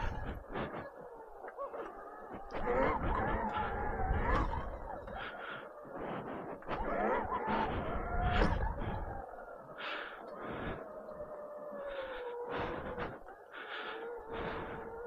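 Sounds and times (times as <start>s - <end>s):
rushes of noise: 0.0s - 15.0s.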